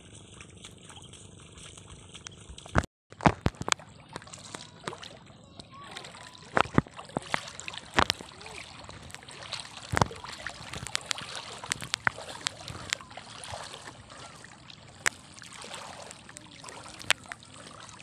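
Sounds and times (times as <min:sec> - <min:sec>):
seawater sloshing around legs: 0:00.0 - 0:18.0
sharp water splashes: 0:00.0 - 0:18.0.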